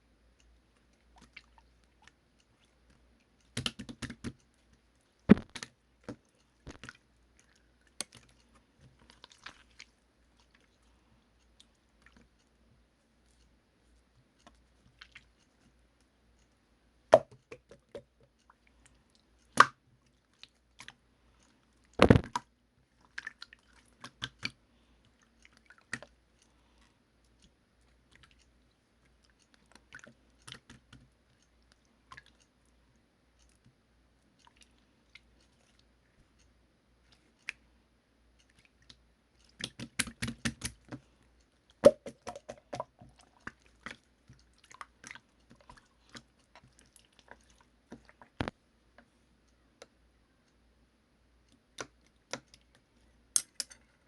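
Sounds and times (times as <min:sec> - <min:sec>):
wet squishes of slime: 0:00.0 - 0:54.0.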